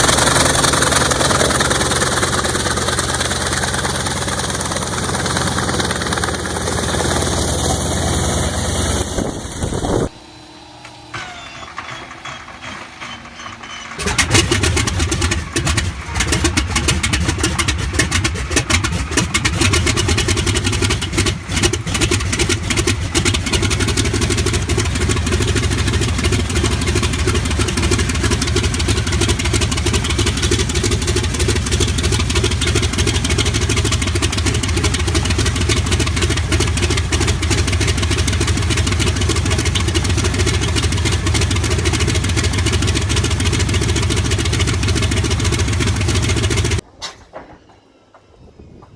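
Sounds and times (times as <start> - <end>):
engine running loudly: 0.0 - 13.4, 14.0 - 46.8
aircraft piston engine starting: 0.0 - 46.8.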